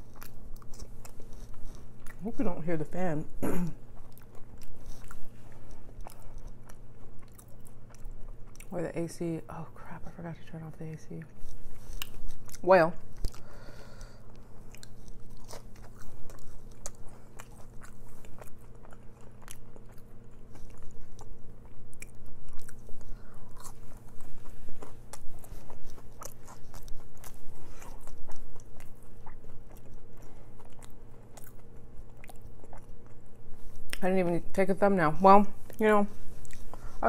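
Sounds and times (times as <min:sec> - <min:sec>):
crunchy fries chewing: 0:00.0 - 0:09.4, 0:10.3 - 0:34.1, 0:35.6 - 0:37.0
fan and air conditioner hum: 0:00.0 - 0:37.0.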